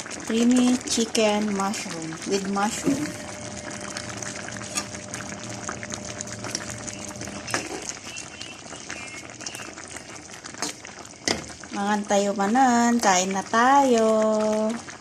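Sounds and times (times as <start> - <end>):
sauce bubbling in a pan: 0.0 - 15.0.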